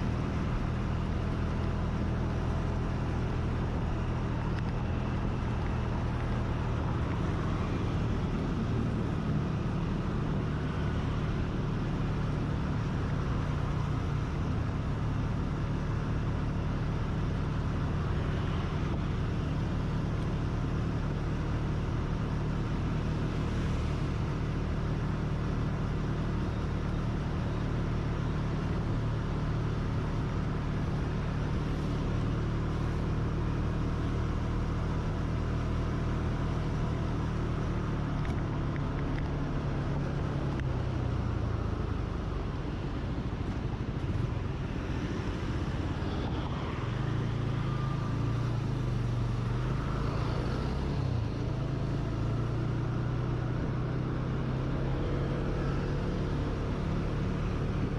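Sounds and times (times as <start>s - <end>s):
road noise: 0.0s - 57.9s
vehicle engine humming: 0.0s - 57.9s.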